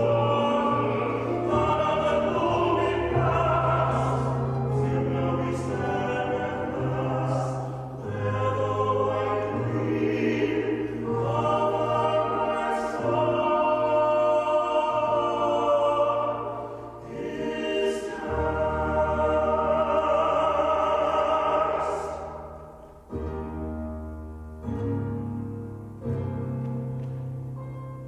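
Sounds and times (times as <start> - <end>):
choir singing classical chords: 0.0 - 28.0.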